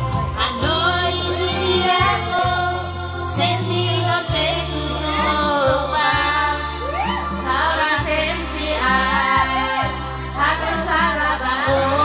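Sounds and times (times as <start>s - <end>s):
backing music: 0.0s - 12.0s
sustained bass notes: 0.0s - 12.0s
woman singing into microphone: 0.2s - 12.0s.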